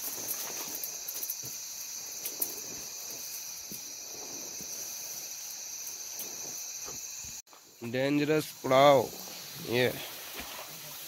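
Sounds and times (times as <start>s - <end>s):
rustling in tall grass: 0.0s - 7.4s, 8.9s - 11.0s
insects droning: 0.0s - 11.0s.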